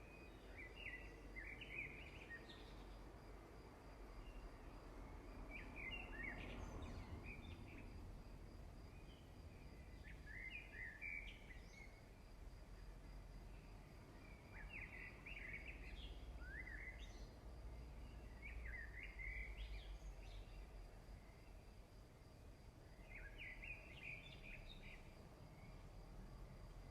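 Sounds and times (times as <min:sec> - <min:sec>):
faint bird song: 0:00.0 - 0:26.9
low steady background noise: 0:00.0 - 0:26.9.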